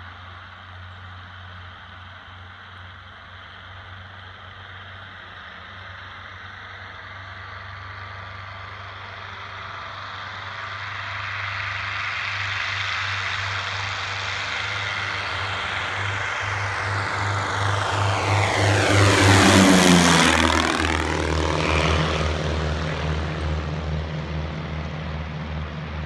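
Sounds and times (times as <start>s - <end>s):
propeller plane engines at takeoff: 0.0s - 26.0s.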